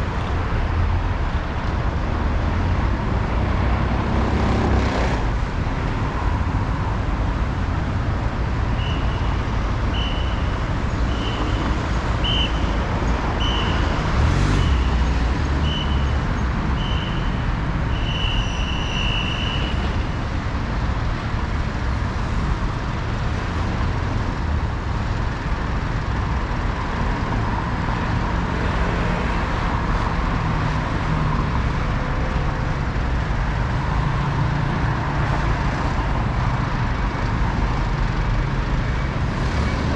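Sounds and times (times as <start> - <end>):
city road traffic: 0.0 - 39.9.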